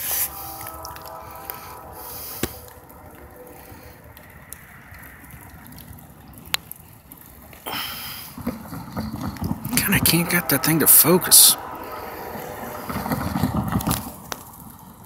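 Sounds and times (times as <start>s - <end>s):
distant locomotive horns: 0.0s - 15.0s
low rumble: 0.0s - 15.0s
wind buffeting microphone: 0.0s - 15.0s.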